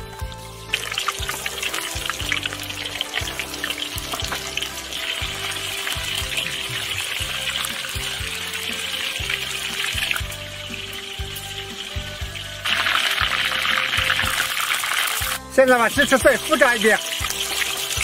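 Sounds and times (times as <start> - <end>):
background music: 0.0 - 18.0
chicken sizzling in hot oil: 0.0 - 18.0.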